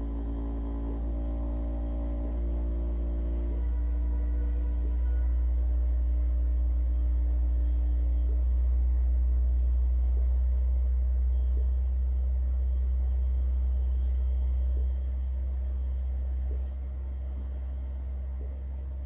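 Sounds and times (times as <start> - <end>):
deep bass tone from subwoofer: 0.0 - 19.0.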